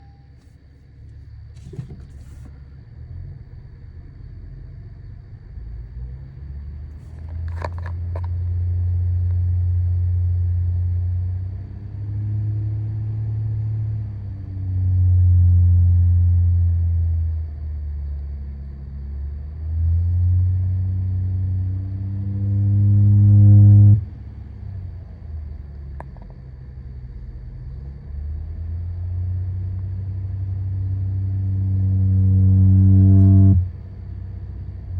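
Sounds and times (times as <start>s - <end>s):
low droning car noise: 0.0s - 34.9s.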